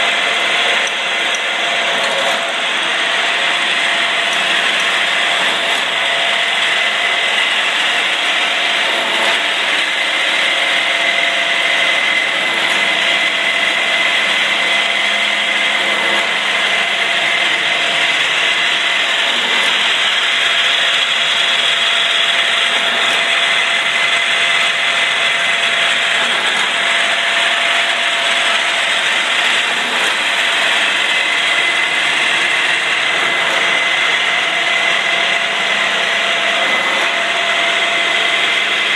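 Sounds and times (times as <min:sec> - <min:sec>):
steady high whine: 0:00.0 - 0:38.9.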